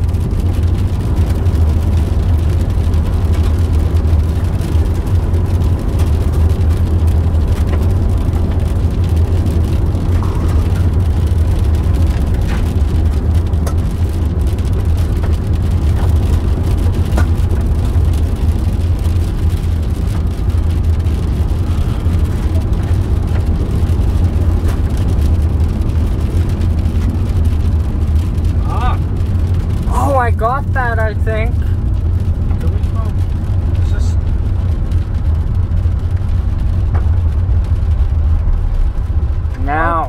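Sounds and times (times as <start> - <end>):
car tyres and engine rumble: 0.0 - 40.0.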